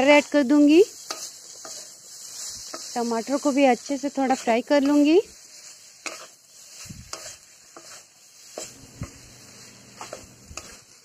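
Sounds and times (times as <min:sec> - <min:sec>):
faint sizzle: 0:00.0 - 0:11.0
spatula scraping metal pan: 0:00.9 - 0:11.0.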